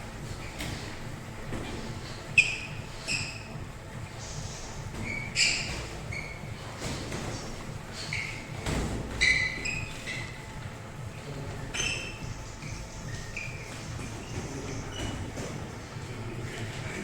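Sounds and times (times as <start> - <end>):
shoes squeaking on gym floor: 0.1 - 17.0.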